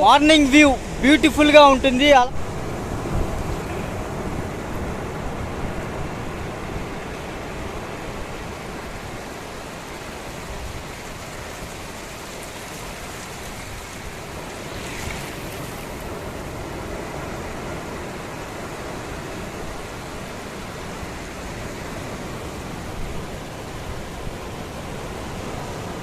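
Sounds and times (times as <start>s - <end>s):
sea surf washing onto beach: 0.0s - 26.0s.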